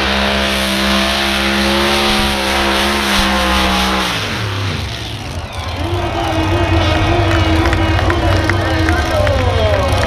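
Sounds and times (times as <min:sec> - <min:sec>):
tractor engine revving: 0:00.0 - 0:10.0.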